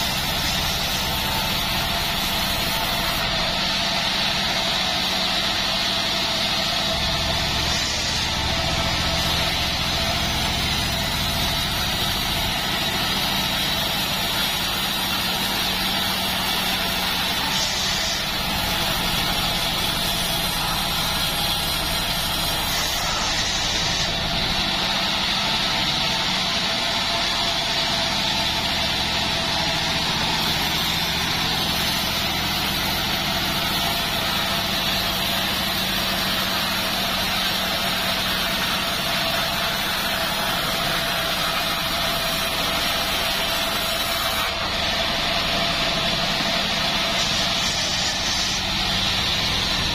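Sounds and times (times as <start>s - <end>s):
band saw cutting log: 0.0s - 49.9s.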